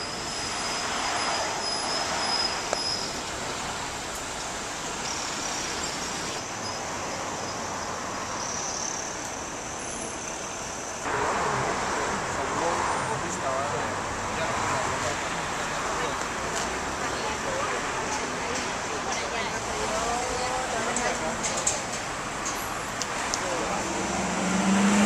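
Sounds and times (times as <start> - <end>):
passing vehicles: 0.0 - 25.0.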